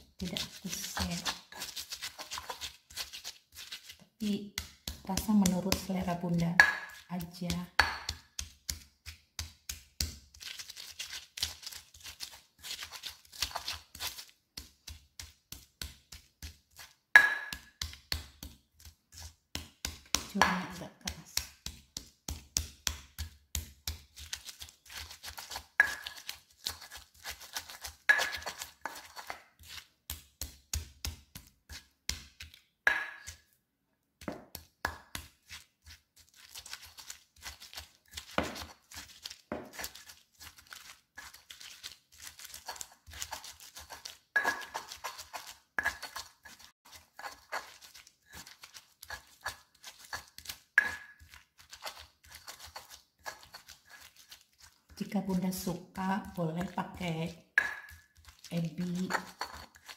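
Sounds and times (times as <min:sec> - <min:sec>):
stone pestle grinding in mortar: 0:00.1 - 0:33.4, 0:34.2 - 0:59.9.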